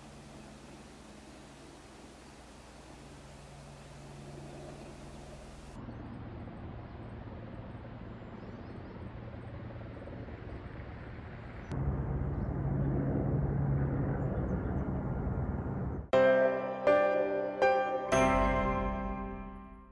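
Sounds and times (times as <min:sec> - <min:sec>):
distant helicopter drone: 0:00.0 - 0:16.2.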